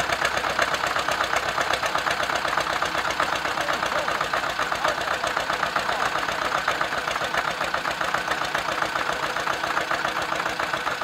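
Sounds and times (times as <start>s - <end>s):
tractor diesel engines idling: 0.0s - 11.0s.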